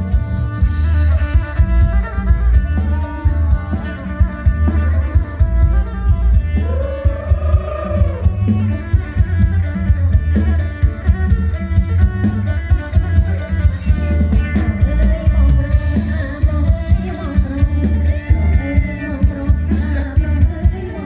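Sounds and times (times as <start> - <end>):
band music with drums and guitar: 0.0 - 21.0.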